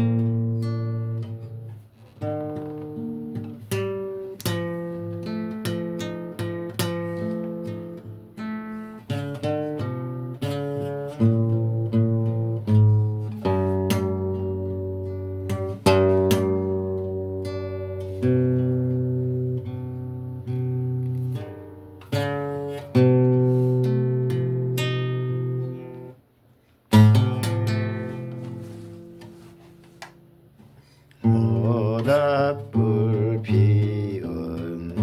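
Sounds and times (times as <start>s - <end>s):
acoustic guitar strumming chords: 0.0s - 35.0s.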